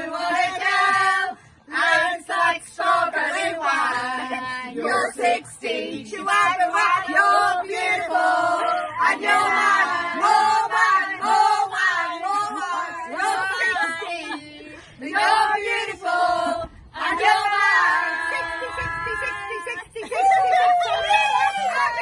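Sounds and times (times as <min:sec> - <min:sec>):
group of women singing: 0:00.0 - 0:22.0.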